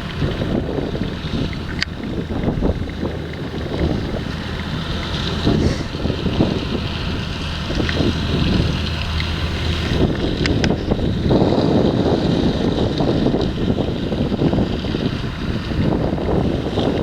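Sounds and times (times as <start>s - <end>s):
farm machinery engines running: 0.0s - 17.0s
wind buffeting microphone: 0.0s - 17.0s.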